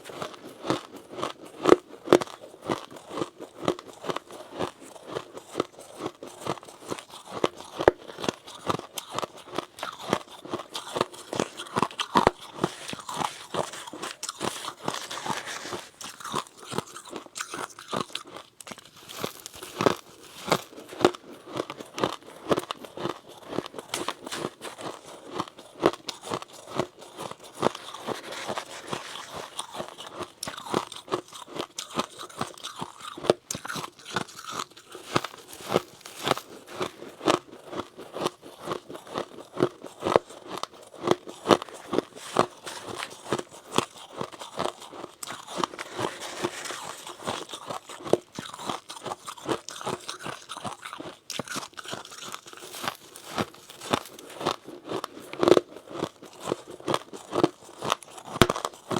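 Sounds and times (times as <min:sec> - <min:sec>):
chewing crunchy frost: 0:00.0 - 0:58.9.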